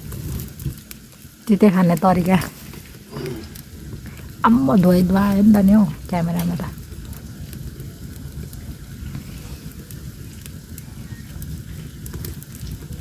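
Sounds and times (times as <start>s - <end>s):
open fire crackling: 0.0s - 13.0s.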